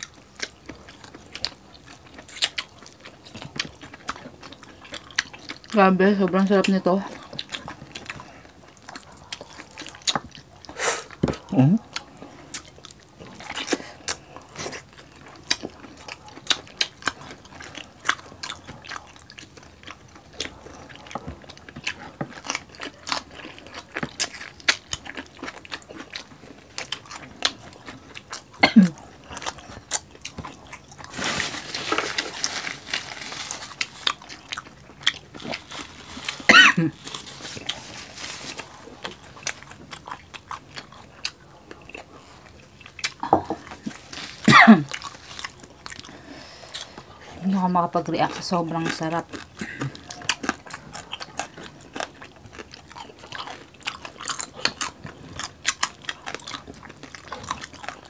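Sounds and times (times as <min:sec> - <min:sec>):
crispy pork skin crunching: 0:00.0 - 0:11.2, 0:11.8 - 0:58.0.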